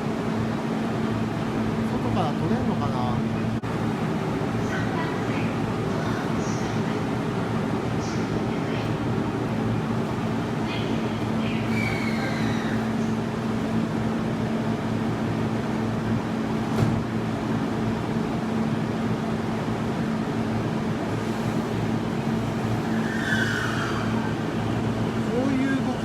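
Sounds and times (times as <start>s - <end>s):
train car interior hum: 0.0s - 26.0s.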